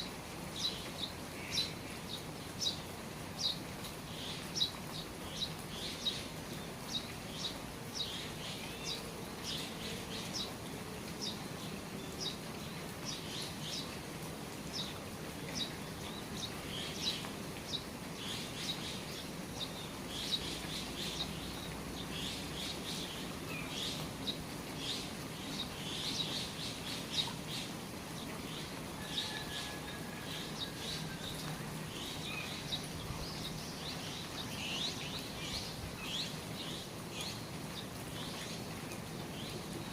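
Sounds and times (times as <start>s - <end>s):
rain falling: 0.0s - 39.9s
small birds chirping: 0.0s - 39.9s.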